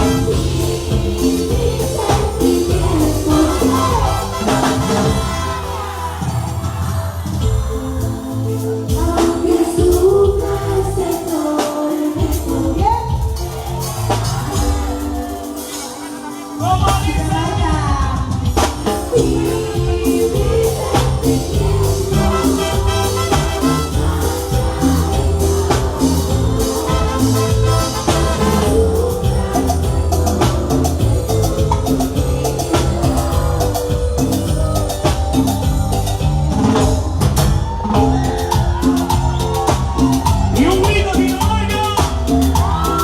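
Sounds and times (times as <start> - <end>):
bass line: 0.0 - 11.3, 12.2 - 15.1, 16.6 - 43.0
person singing: 0.0 - 36.7
live band playing instrumental: 0.0 - 43.0
percussion: 0.0 - 43.0.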